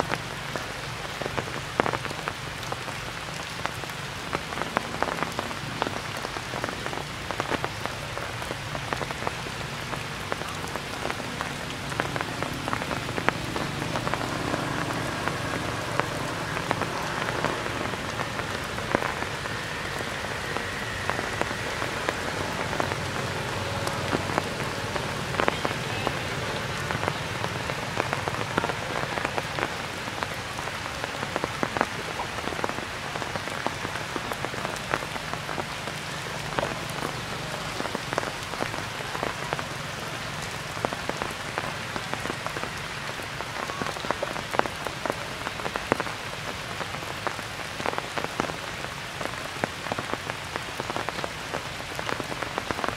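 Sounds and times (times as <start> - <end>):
sharp raindrop hits: 0.0 - 52.9
steady rain falling: 0.0 - 52.9.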